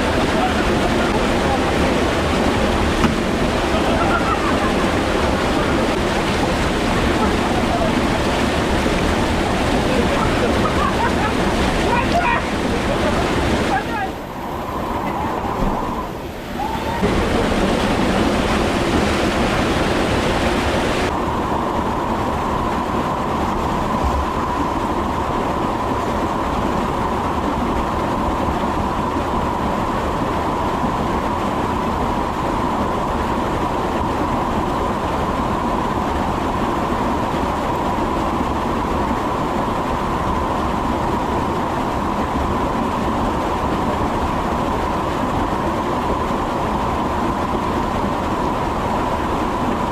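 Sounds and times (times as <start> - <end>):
faint steady whine: 0.0 - 49.9.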